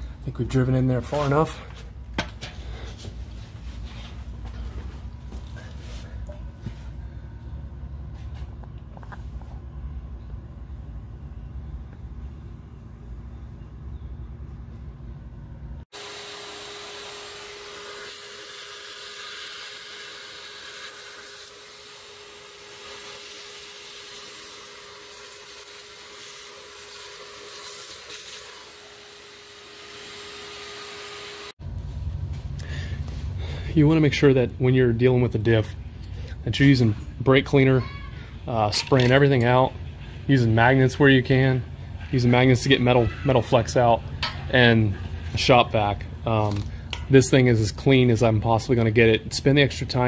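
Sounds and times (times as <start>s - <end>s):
shop vac whining: 0.0s - 50.0s.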